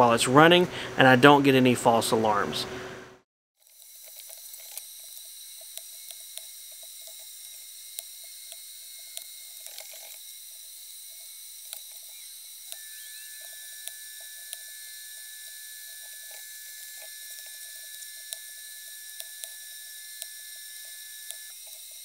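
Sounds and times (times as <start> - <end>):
high-pitched electrical whine: 0.0 - 22.0
whining tone: 3.6 - 22.0.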